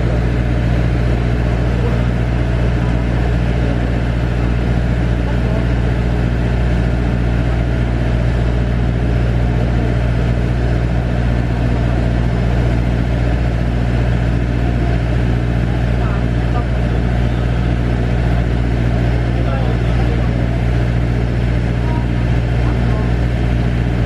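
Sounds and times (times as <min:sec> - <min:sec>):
airport ramp machinery drone: 0:00.0 - 0:24.0.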